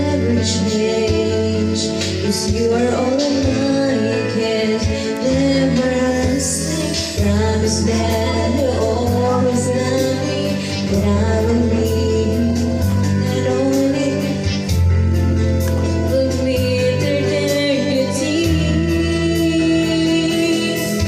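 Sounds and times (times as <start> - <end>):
karaoke backing track: 0.0 - 21.0
woman singing karaoke: 0.0 - 21.0.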